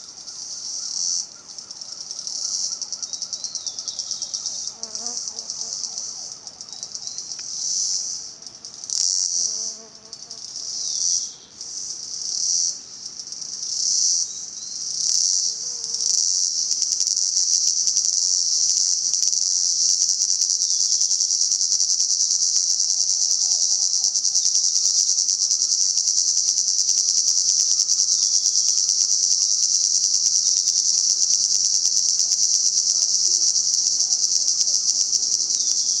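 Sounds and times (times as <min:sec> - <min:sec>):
cicadas buzzing: 0:00.0 - 0:36.0.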